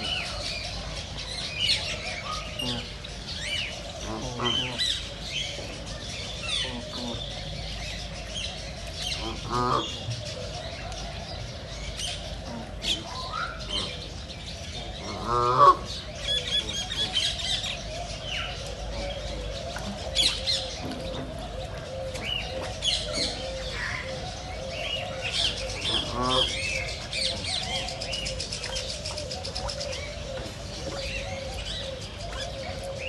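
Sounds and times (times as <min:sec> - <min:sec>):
small birds chirping: 0:00.0 - 0:33.0
wild ducks quacking: 0:01.8 - 0:08.2, 0:09.0 - 0:10.6, 0:12.1 - 0:17.4, 0:18.1 - 0:33.0.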